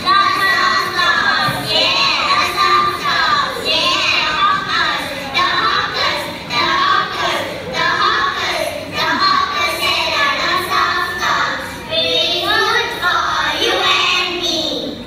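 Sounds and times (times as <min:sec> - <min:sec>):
children singing together: 0:00.0 - 0:15.0
faint backing music: 0:00.0 - 0:15.0.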